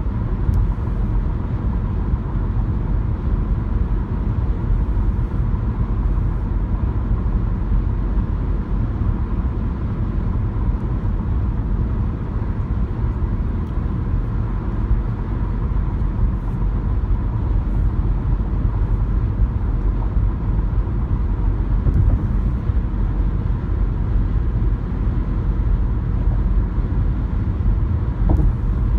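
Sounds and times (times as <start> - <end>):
car road noise rumble: 0.0 - 28.9.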